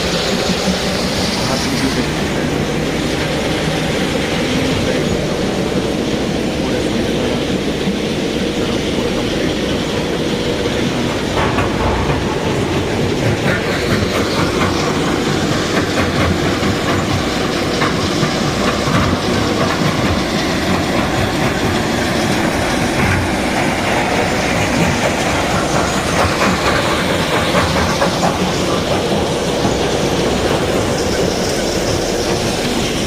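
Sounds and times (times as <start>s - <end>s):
loud mechanical rumble with rattling: 0.0s - 33.0s.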